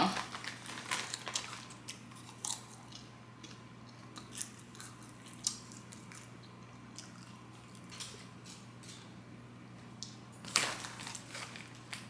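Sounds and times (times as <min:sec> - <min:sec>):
person chewing popcorn: 0:00.0 - 0:09.1, 0:10.0 - 0:12.0.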